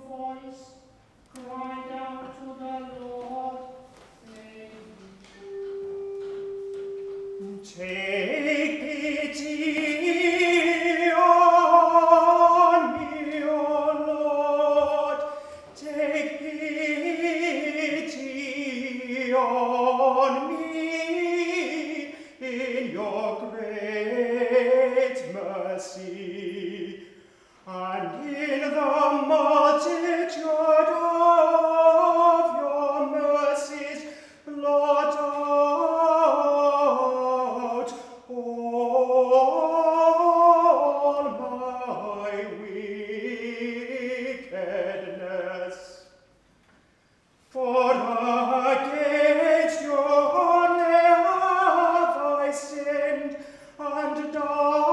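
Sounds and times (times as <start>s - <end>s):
man singing unaccompanied: 0.0s - 46.3s, 47.5s - 54.9s.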